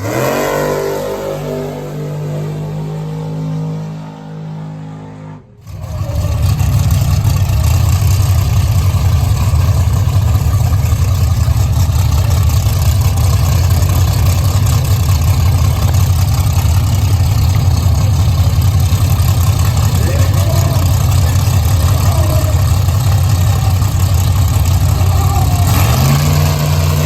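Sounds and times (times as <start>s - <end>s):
car engine held tone: 0.0s - 27.0s
loud engine rumbling: 0.0s - 27.0s.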